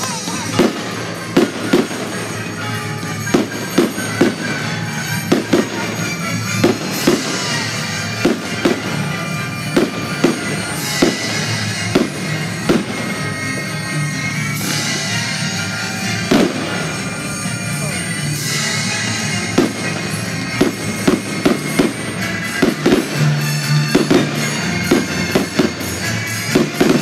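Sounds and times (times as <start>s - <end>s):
fireworks bursting with sharp bangs: 0.0s - 27.0s
fireworks crackling: 0.0s - 27.0s
music: 0.0s - 27.0s.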